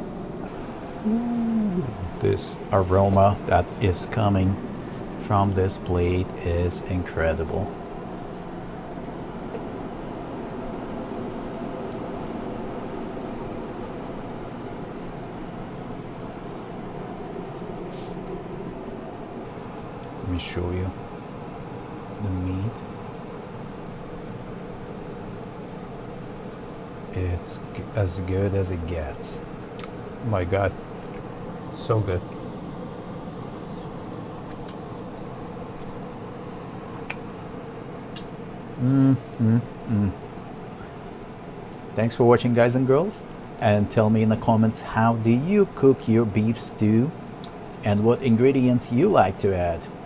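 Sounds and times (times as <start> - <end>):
mechanical hum with hiss: 0.0 - 50.0.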